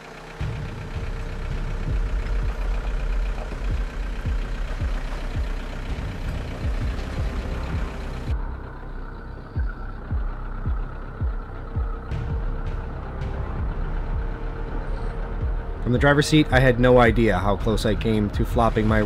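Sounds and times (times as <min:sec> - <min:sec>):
off-road vehicle engine running: 0:00.0 - 0:19.0
low thumps: 0:00.4 - 0:19.0.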